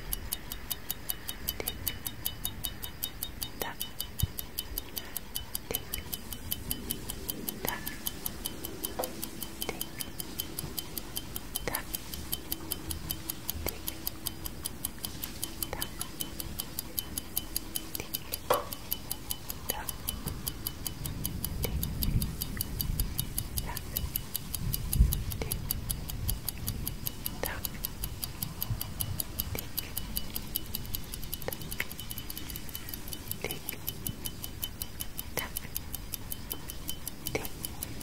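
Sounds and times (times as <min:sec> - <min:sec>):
clock ticking: 0:00.0 - 0:38.0.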